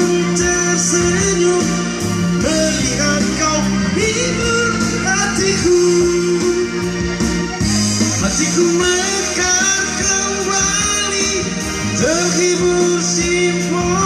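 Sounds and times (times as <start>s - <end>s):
man singing into a microphone: 0.0s - 7.2s, 8.2s - 14.0s
electronic keyboard: 0.0s - 14.0s.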